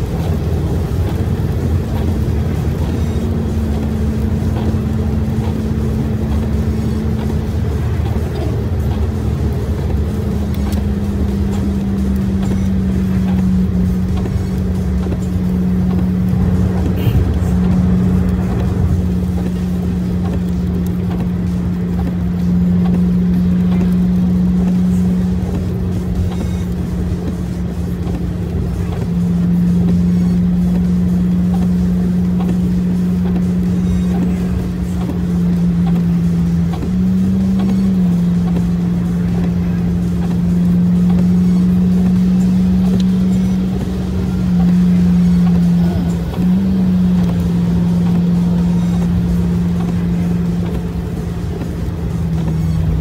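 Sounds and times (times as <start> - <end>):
vehicle engine and tyres rumbling: 0.0 - 53.0.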